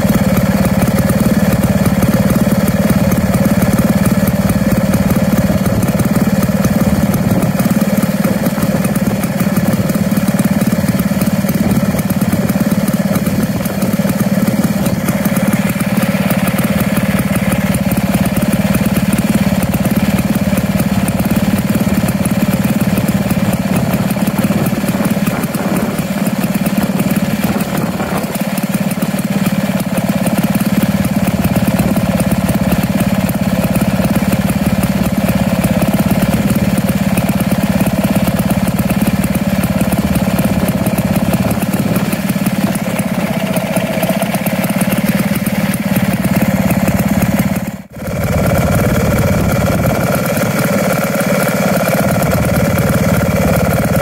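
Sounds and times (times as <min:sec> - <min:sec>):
stationary engine running: 0:00.0 - 0:54.0.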